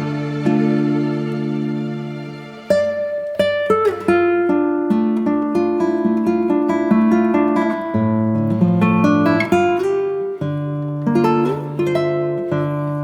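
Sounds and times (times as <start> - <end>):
acoustic guitar melody: 0.0 - 13.0.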